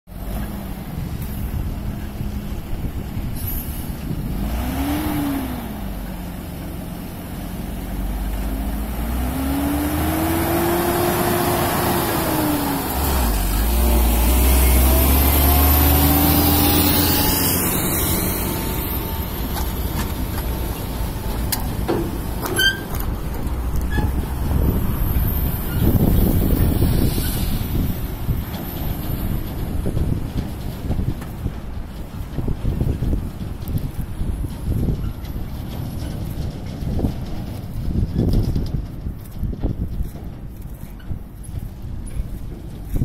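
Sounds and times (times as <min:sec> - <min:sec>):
truck diesel engine revving: 0:00.1 - 0:40.3.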